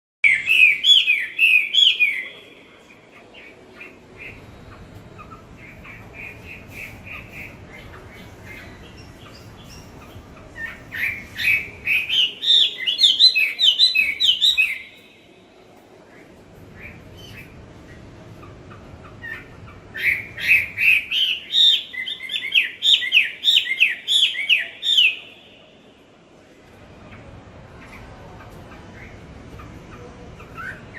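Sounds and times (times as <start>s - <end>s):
bird chirping: 0.2s - 25.8s.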